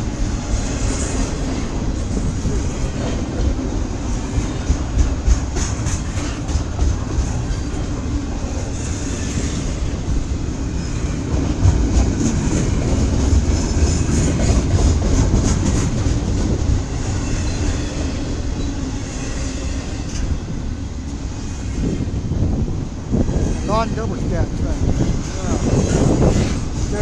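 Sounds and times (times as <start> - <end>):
freight train rumbling past: 0.0 - 27.0
train wheels clacking on rail joints: 0.0 - 27.0.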